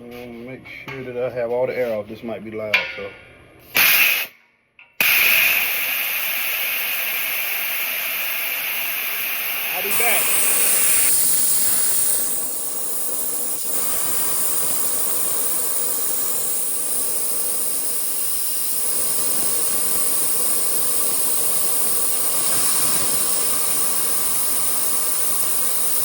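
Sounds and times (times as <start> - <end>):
air compressor tank venting hiss: 3.7 - 4.4, 5.0 - 26.0.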